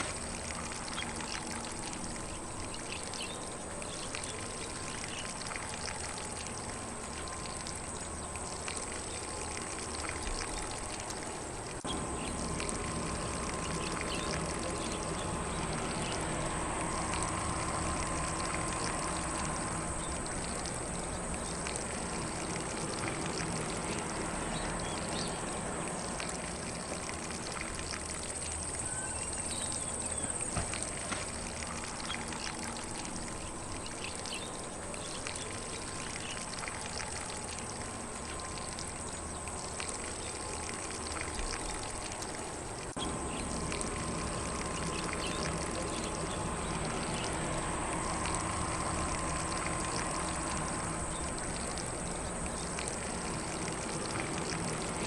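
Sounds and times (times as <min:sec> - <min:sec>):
faint birdsong: 0:00.0 - 0:55.0
lawn sprinkler spraying water: 0:00.0 - 0:55.0.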